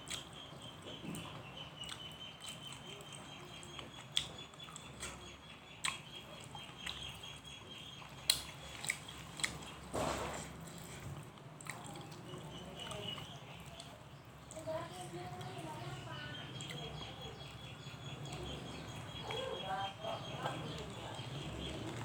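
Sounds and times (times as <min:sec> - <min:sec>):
chewing with wet mouth clicks: 0:00.0 - 0:09.9, 0:10.6 - 0:19.6.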